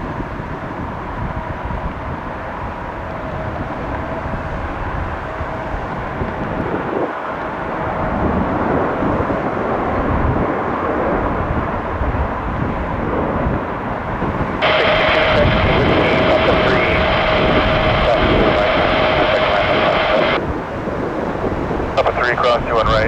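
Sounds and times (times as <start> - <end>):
jet engine rush with whine: 0.4 - 23.0.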